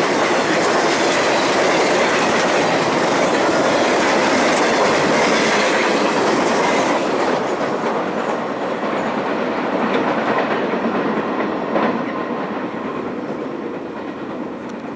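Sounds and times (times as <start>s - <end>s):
train wheels clicking over rail joints: 0.0s - 14.9s.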